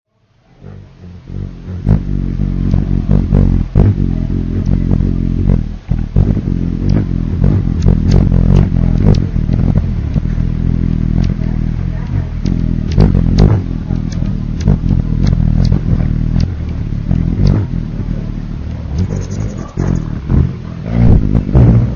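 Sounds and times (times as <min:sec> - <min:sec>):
hummingbird wings humming: 0:00.6 - 0:21.6.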